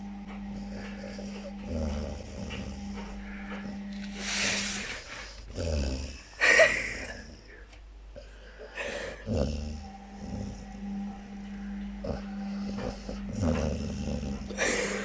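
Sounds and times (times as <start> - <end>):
dog breathing: 0.0 - 15.0
dog snoring: 0.0 - 15.0.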